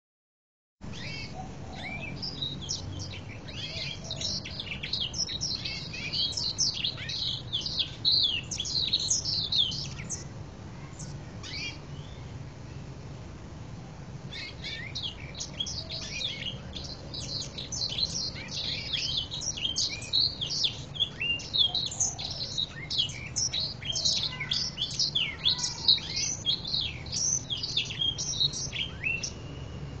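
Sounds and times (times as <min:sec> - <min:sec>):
canary singing: 0:00.8 - 0:12.3, 0:14.3 - 0:30.0.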